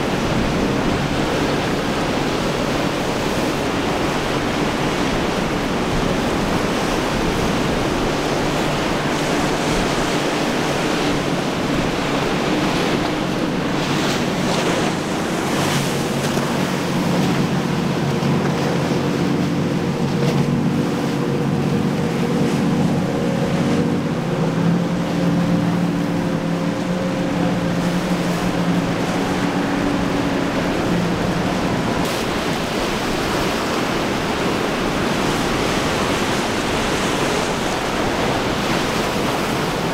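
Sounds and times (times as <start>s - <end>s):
boat engine droning: 0.0s - 39.9s
rough surf washing: 0.0s - 39.9s
wind buffeting microphone: 0.0s - 39.9s.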